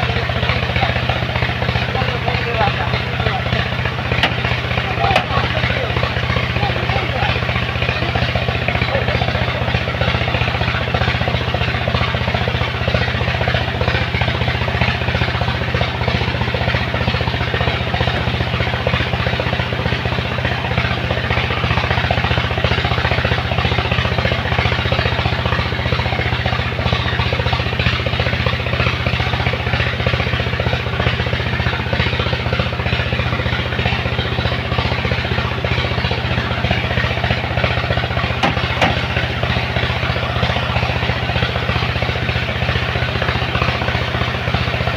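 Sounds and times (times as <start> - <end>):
truck diesel engine running: 0.0 - 44.9.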